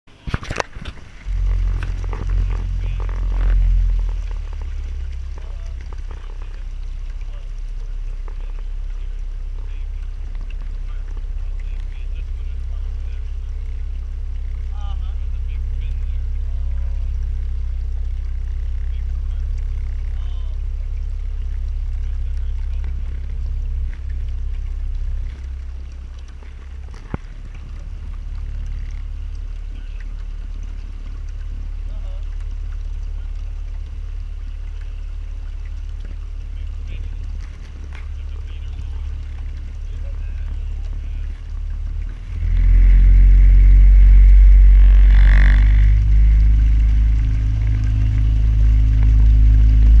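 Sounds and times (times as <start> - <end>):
motorboat engine rumbling: 0.0 - 50.0.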